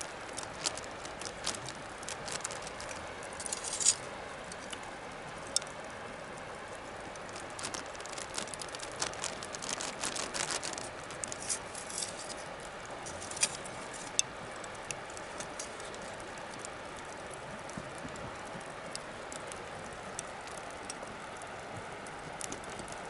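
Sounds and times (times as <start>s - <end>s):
fire snapping: 0.0s - 5.9s, 6.6s - 23.0s
bonfire crackling: 0.0s - 23.0s.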